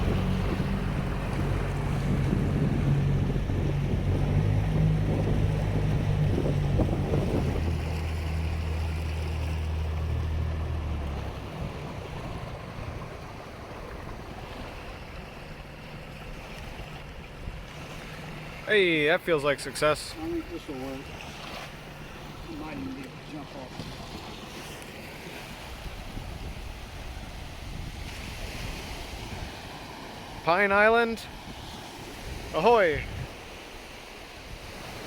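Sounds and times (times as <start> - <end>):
boat motor running: 0.0 - 35.0
water noise: 0.0 - 35.0
wind: 0.0 - 35.0.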